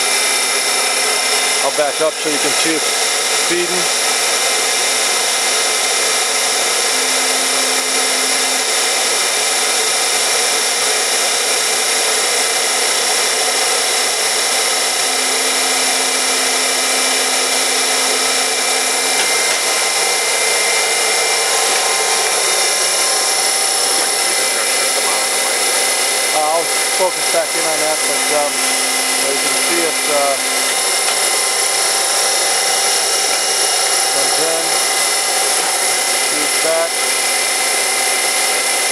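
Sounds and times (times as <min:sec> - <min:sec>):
grinding spindle whine: 0:00.0 - 0:38.9
hydraulics humming: 0:00.0 - 0:38.9
lower hum: 0:05.4 - 0:37.9.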